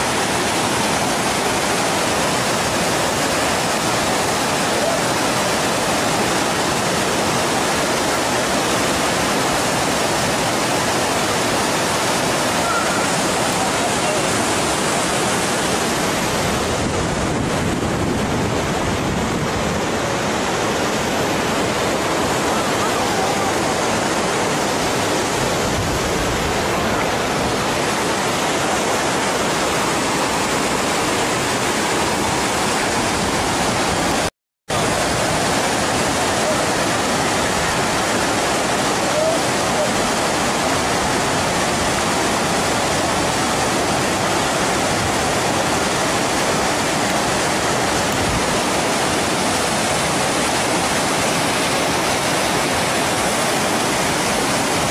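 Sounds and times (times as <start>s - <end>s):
waterfall and river rushing: 0.0s - 54.9s.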